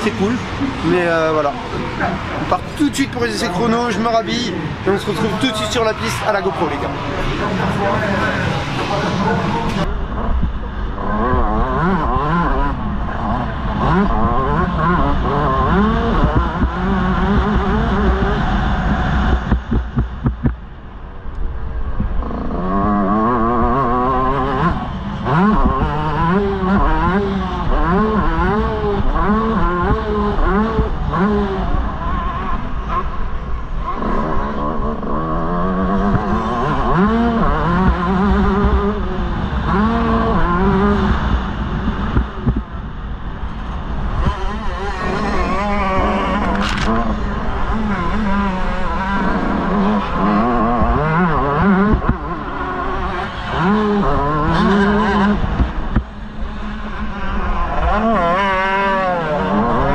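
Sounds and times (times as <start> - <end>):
motocross bike engine revving: 0.0 - 20.5, 22.0 - 59.9.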